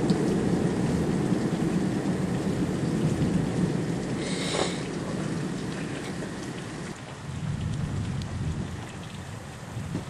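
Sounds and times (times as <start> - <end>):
low rumble of thunder: 0.0 - 10.0
steady rain: 0.0 - 10.0.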